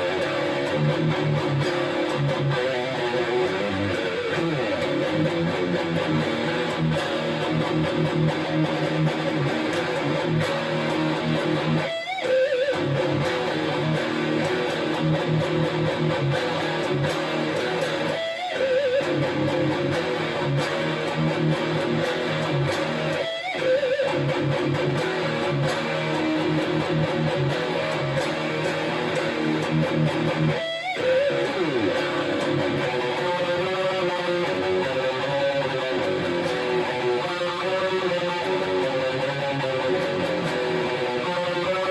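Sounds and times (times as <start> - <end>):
electric guitar riffing: 0.0 - 41.9.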